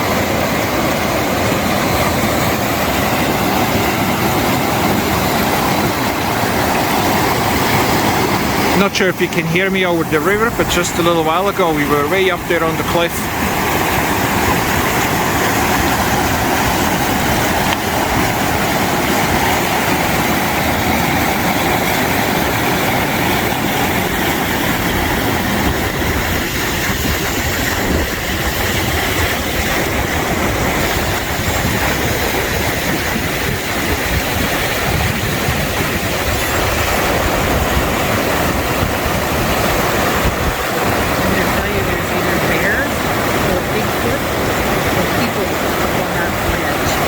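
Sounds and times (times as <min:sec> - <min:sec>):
waterfall and river rushing: 0:00.0 - 0:47.0.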